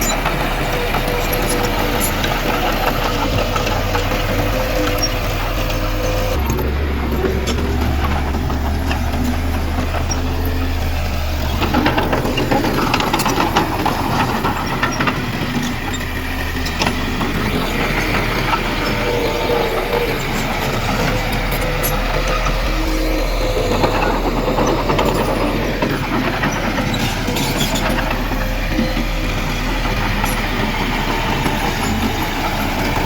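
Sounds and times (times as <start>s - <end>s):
clattering and knocks: 0.0s - 33.0s
diesel machinery engine drone: 0.0s - 33.0s.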